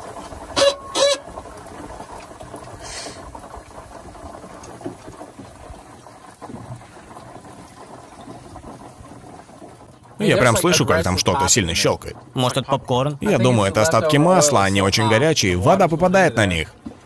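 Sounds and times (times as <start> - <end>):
water boiling and sizzling hiss: 0.0 - 17.0.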